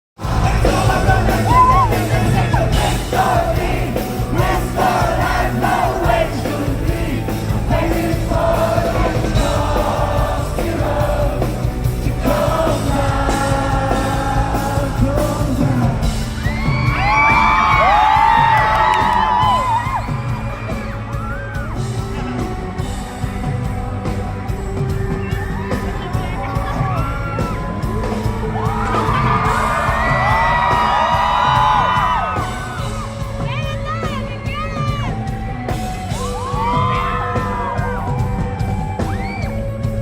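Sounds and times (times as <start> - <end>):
amplified band music with singer: 0.2 - 40.0
fans screaming and whooping: 0.2 - 40.0.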